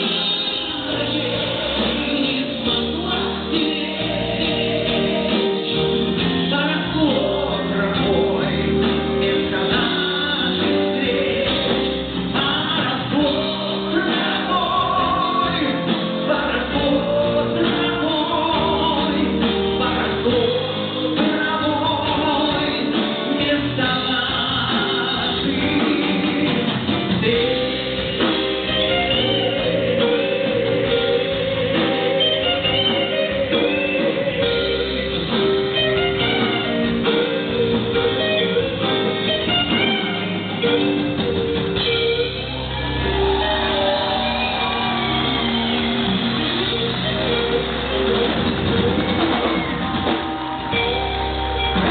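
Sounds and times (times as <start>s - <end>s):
pop song with singing and guitar: 0.0s - 51.9s.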